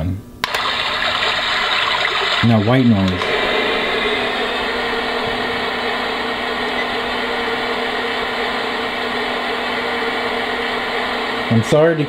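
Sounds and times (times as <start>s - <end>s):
faint steady hum: 0.0s - 12.0s
white noise hiss: 0.0s - 12.0s.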